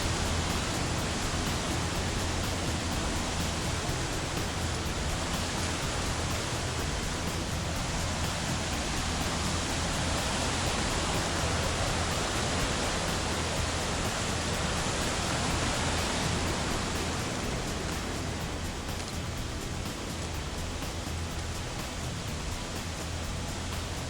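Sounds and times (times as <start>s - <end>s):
fast stream rushing water: 0.0s - 24.0s.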